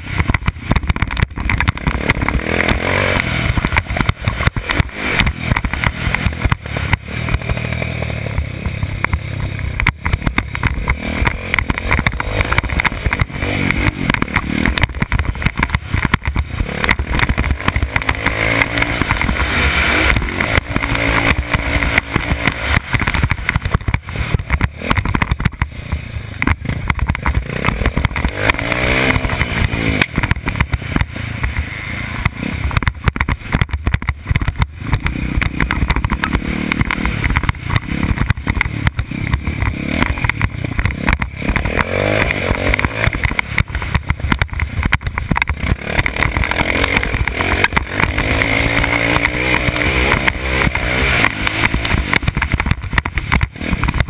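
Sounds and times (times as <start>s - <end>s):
dirt bike engine revving: 0.0s - 33.6s, 34.2s - 54.0s
riding clatter: 0.0s - 54.0s.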